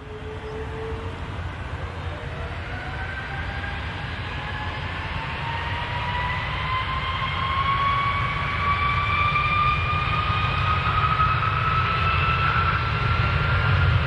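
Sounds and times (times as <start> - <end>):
airplane engines whining: 0.0 - 14.0.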